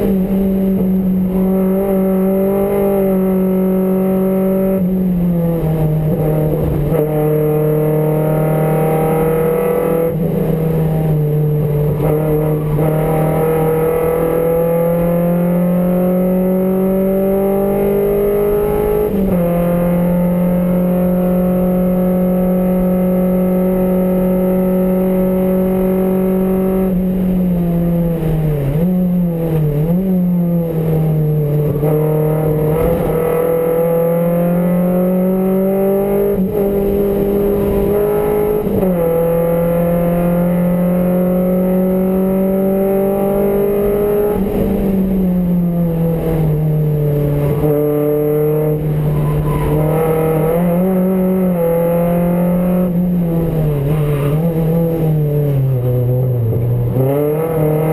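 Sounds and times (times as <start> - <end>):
race car engine at high revs: 0.0 - 57.9.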